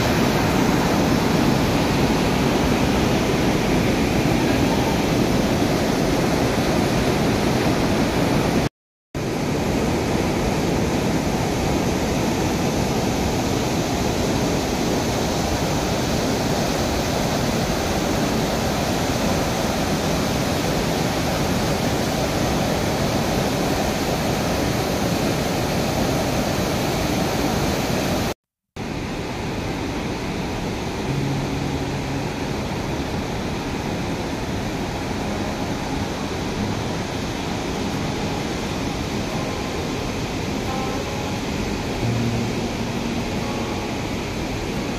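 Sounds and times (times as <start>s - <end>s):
river water pouring over weir: 0.0s - 44.9s.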